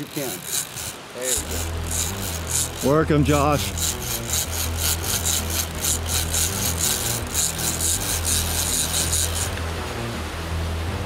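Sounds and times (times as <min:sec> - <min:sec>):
fishing reel cranking rasp: 0:00.0 - 0:09.6.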